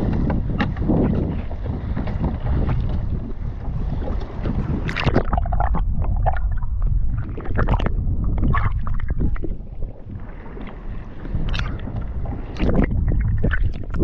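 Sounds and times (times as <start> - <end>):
water splashing against kayak hull: 0.0 - 14.0
wind buffeting microphone: 0.0 - 14.0.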